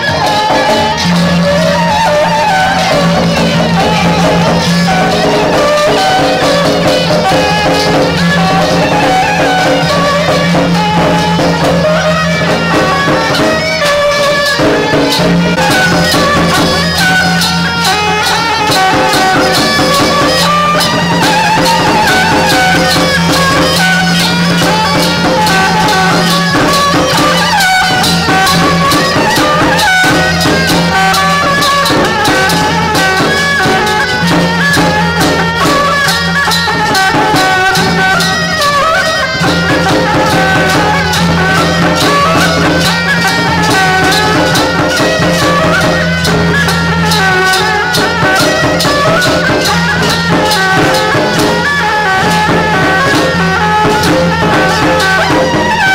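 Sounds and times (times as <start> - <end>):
fast cymbal and drum beats: 0.0 - 55.9
reed wind melody: 0.0 - 55.9.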